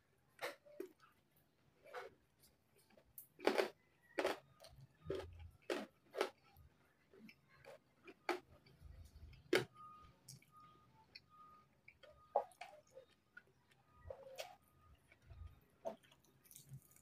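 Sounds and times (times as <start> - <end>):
crunchy chewing: 0.3 - 17.0.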